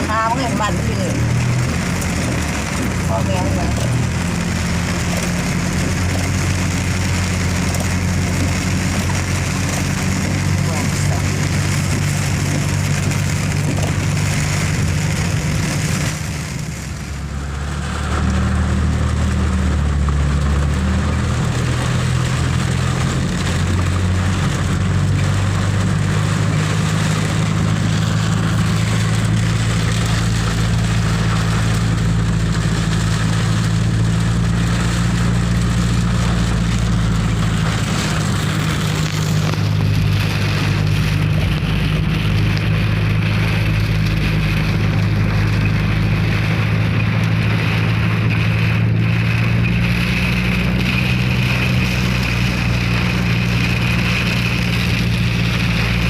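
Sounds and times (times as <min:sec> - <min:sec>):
car engine humming: 0:00.0 - 0:56.0
heavy rain hissing: 0:00.0 - 0:56.0.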